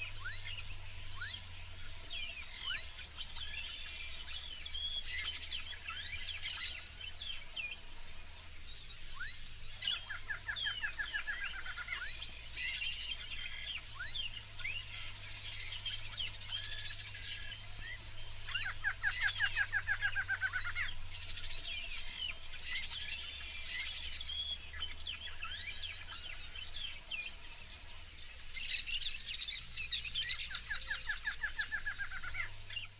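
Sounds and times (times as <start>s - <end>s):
birds chirping and whistling: 0.0s - 32.9s.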